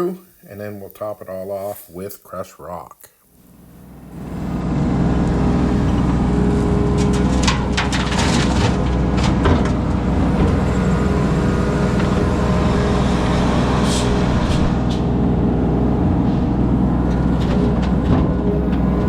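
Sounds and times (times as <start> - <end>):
construction machinery engine running: 3.4 - 19.0.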